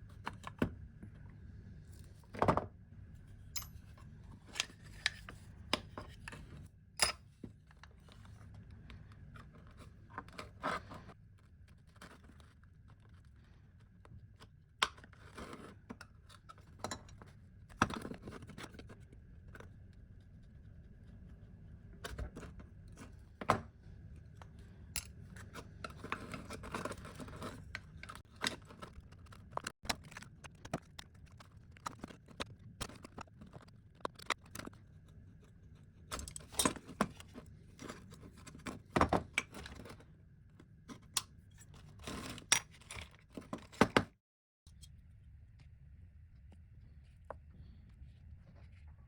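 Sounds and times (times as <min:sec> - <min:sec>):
faint background hum: 0:00.0 - 0:49.0.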